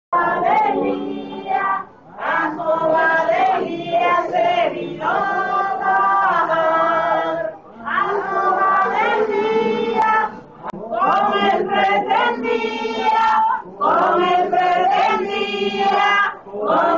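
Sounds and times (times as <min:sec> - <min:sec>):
group singing a hymn: 0:00.2 - 0:16.9.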